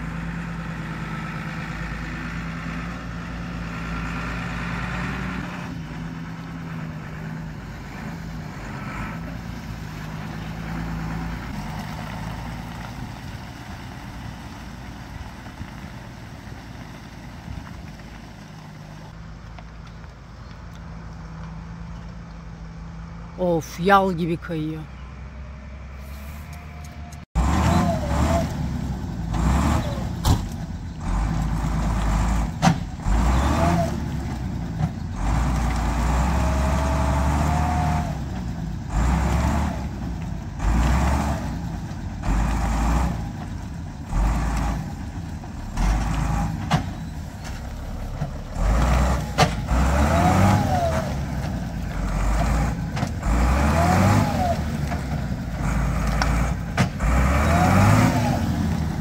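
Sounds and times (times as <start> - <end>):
vehicle engine revving: 0.0 - 19.2, 24.8 - 59.0.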